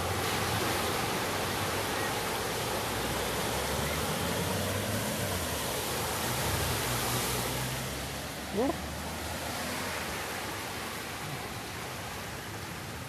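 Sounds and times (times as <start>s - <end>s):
cars driving through deep water: 0.0s - 13.0s
floodwater rushing: 0.0s - 13.0s.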